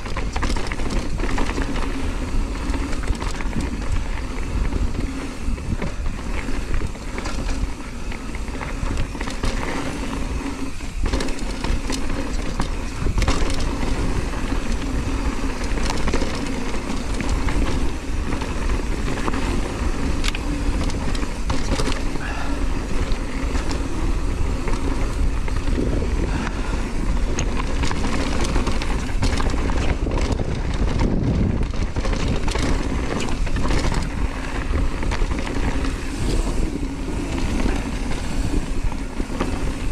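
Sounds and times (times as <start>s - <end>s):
bike clicks and rattles: 0.0s - 39.9s
bike tyres crunching on dirt: 0.0s - 39.9s.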